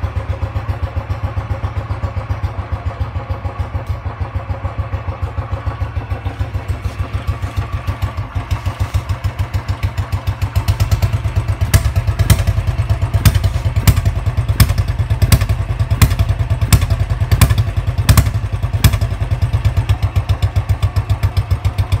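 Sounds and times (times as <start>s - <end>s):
motorcycle engine idling thump: 0.2s - 22.0s.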